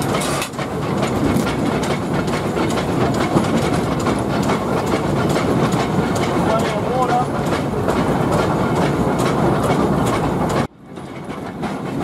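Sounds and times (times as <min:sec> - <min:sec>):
steam locomotive rattling and clanking: 0:00.0 - 0:12.0.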